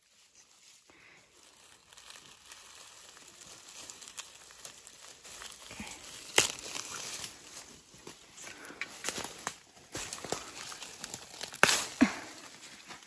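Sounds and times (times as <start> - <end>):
dry leaves rustling and crinkling: 0.0 - 13.0.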